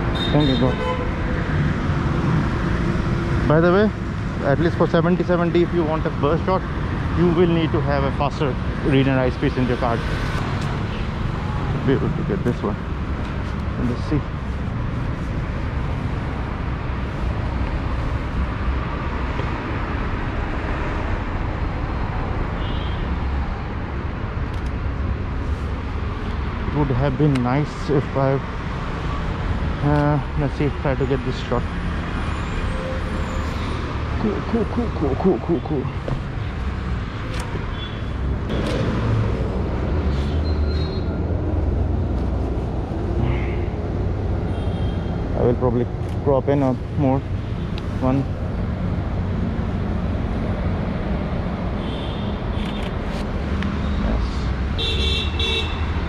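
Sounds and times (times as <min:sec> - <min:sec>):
street traffic rumble: 0:00.0 - 0:56.0.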